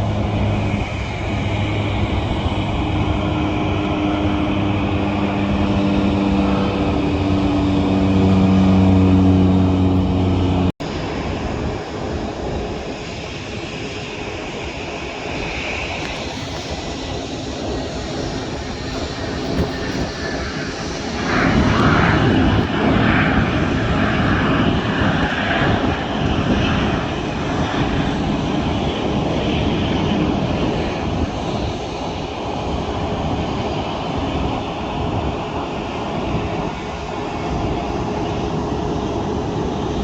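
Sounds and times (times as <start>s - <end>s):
airliner engines rushing: 0.0s - 40.0s.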